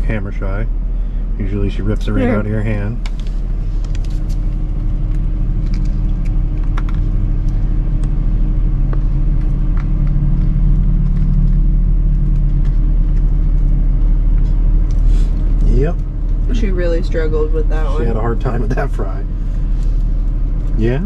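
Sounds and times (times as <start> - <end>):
van engine idling: 0.0 - 21.0.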